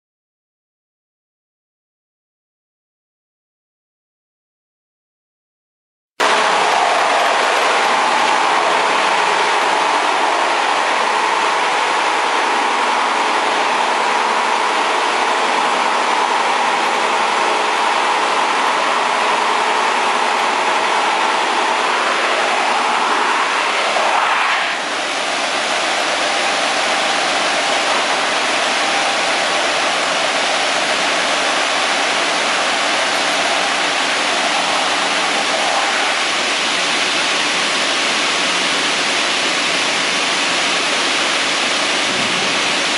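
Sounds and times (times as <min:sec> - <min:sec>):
sanding machine running: 0:06.2 - 0:42.9.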